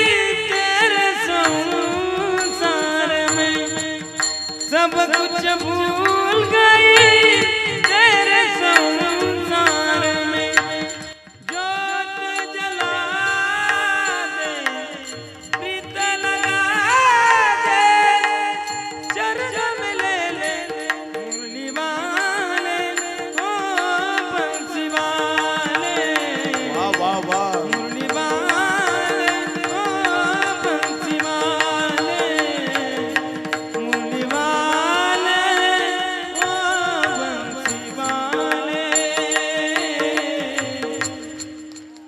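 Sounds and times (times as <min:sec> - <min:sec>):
light percussion: 0:00.0 - 0:42.0
wordless vocal melody: 0:00.0 - 0:42.0.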